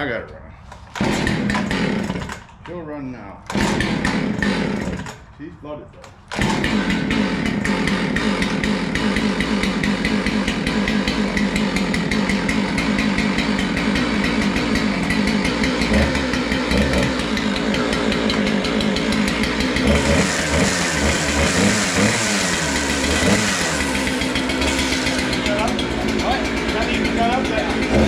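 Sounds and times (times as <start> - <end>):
chainsaw engine running: 0.7 - 28.0.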